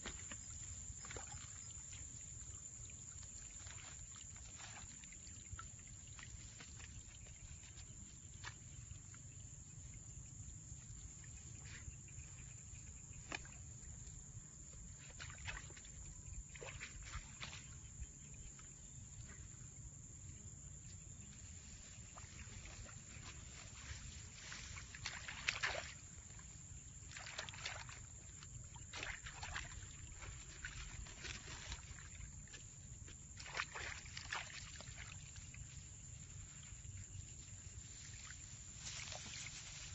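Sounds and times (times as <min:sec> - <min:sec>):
water splashing around boat: 0:00.0 - 0:10.2, 0:10.8 - 0:19.4, 0:21.3 - 0:39.9.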